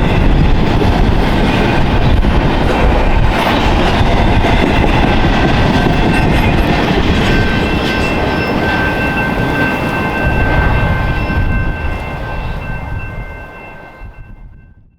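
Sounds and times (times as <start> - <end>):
wheels clacking over rail joints: 0.0 - 14.0
freight train cars rumbling: 0.0 - 14.9
high ringing from wheels: 0.0 - 14.9.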